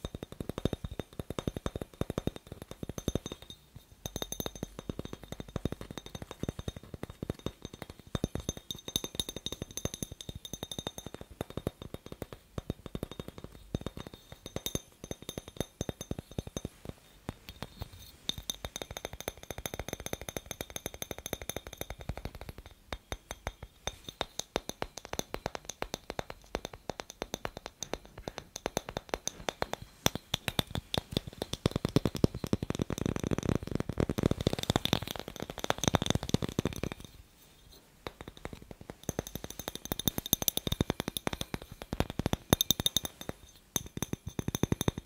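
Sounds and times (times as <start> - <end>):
fingernails tapping glass bulb: 0.0 - 45.0.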